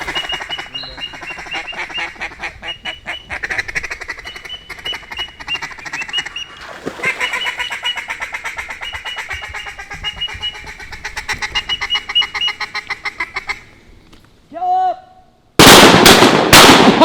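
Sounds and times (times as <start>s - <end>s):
duck quacking: 0.0s - 13.6s.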